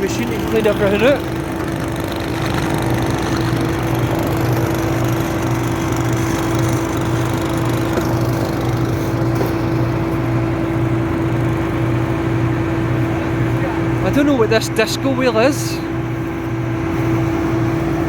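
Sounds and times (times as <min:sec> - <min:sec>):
engine-driven blower running: 0:00.0 - 0:18.0.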